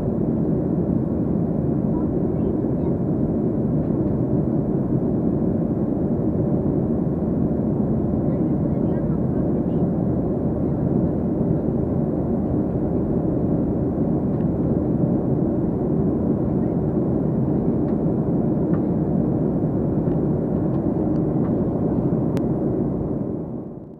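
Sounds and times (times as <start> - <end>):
airplane cabin engine rumble: 0.0 - 23.9.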